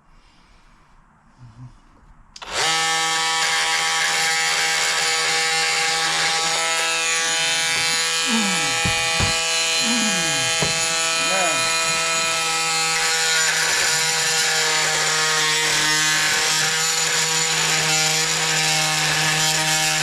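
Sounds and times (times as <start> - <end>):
oscillating multi-tool buzzing: 2.4 - 20.0.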